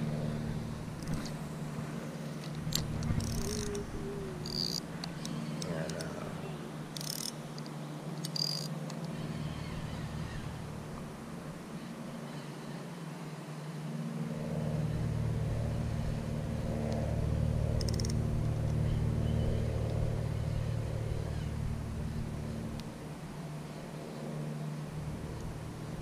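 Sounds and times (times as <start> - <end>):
distant vehicle motor hum: 0.0 - 26.0.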